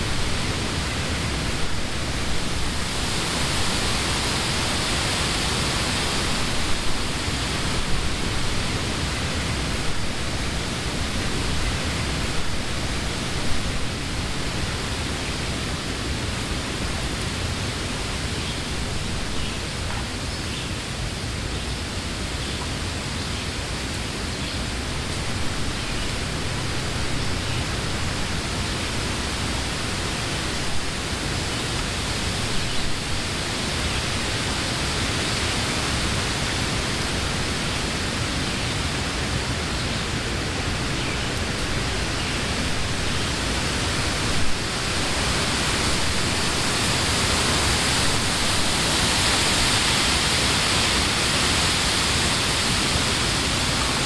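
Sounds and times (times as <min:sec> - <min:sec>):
wind through leafy trees: 0:00.0 - 0:54.0.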